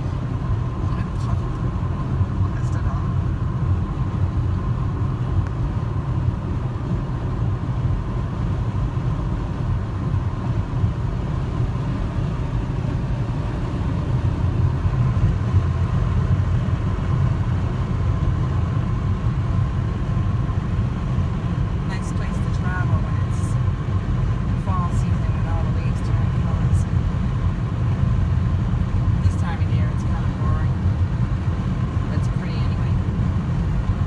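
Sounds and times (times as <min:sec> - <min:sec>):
tyres and engine rumbling: 0:00.0 - 0:34.0.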